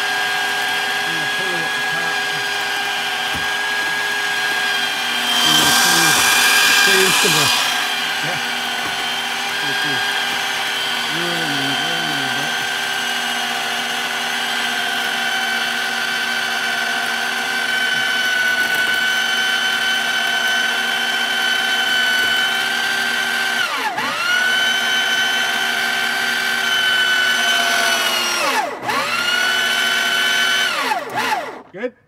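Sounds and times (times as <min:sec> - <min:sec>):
winch motor whining: 0:00.0 - 0:31.7.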